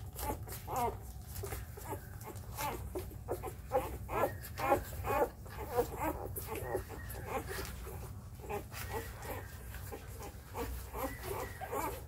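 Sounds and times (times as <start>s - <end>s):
puppies squeaking and whimpering: 0.0s - 12.0s.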